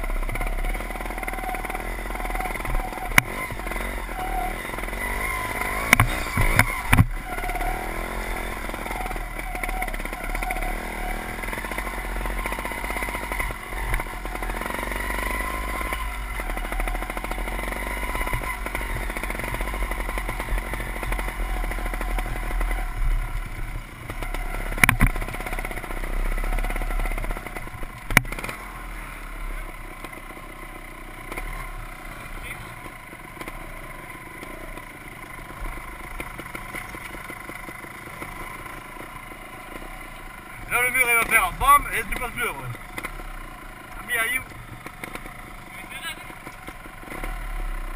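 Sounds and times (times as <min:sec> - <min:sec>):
motorcycle engine at low revs: 0:00.0 - 0:47.9.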